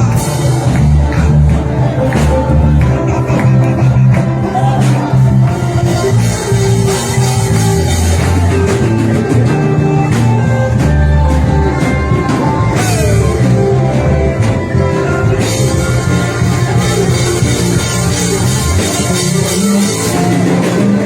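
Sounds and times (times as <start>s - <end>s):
instrumental band music: 0.0s - 21.0s.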